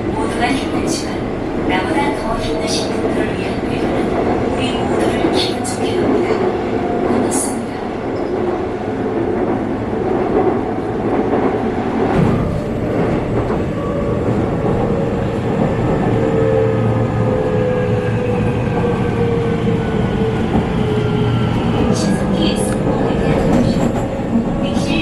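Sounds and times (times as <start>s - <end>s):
subway train rumble: 0.0s - 25.0s.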